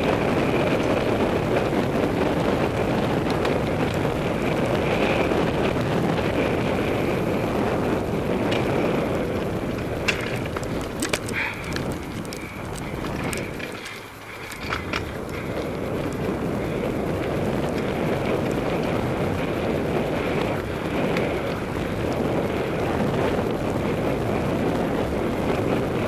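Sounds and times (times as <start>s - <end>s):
bike clicks and rattles: 0.0s - 26.0s
bike tyres rumbling on dirt: 0.0s - 26.0s
wind rushing over microphone: 0.0s - 26.0s.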